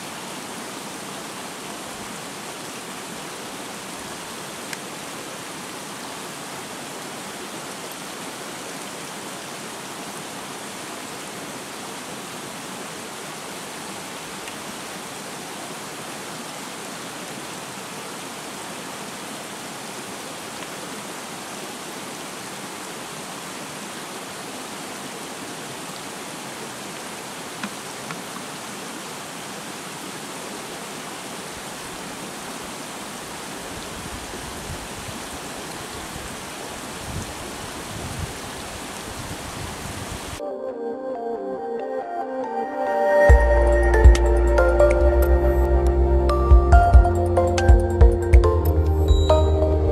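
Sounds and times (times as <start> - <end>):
stream water flowing: 0.0 - 40.4.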